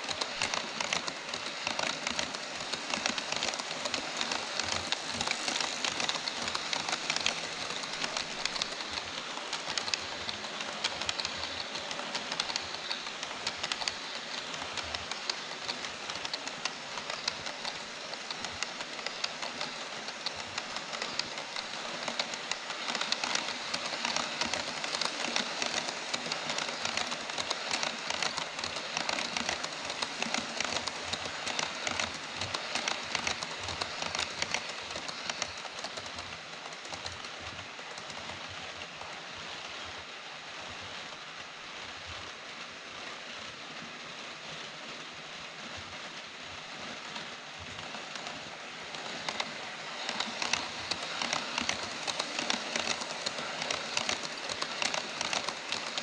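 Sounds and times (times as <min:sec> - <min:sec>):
model train wheels clattering: 0:00.0 - 0:40.1, 0:45.7 - 0:56.0.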